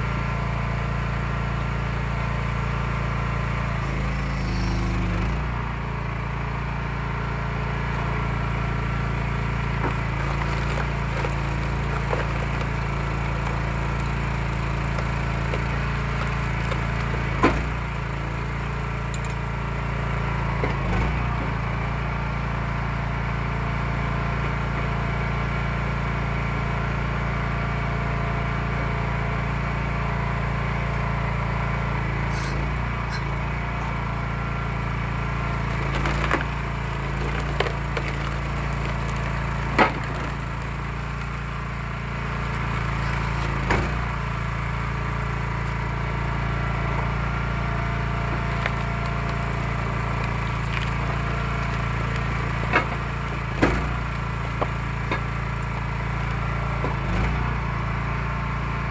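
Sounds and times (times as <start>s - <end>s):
log splitter engine running: 0.0s - 58.9s.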